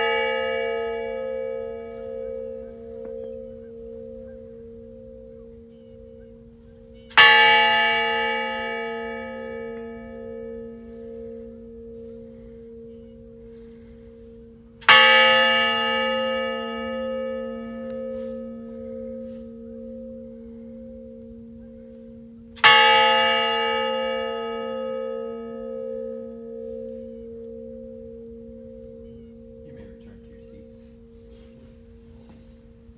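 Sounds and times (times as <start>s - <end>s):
large brass bell tolling: 0.0s - 32.9s.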